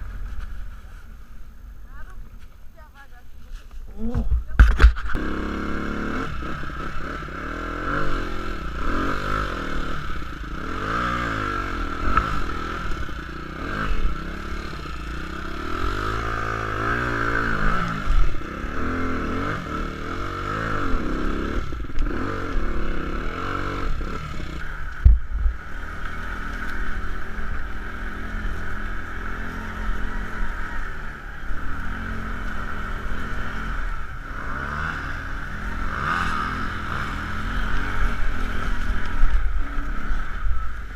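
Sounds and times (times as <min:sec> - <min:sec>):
clattering and scraping over terrain: 0:00.0 - 0:40.9
atv engine revving: 0:04.0 - 0:40.9.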